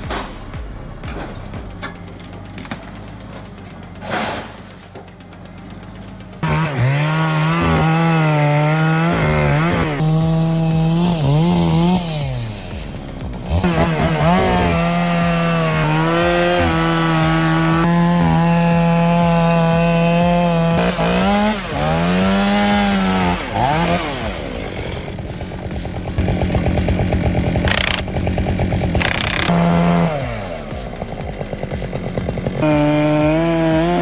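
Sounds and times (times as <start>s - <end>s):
chainsaw running at high revs: 5.2s - 34.0s.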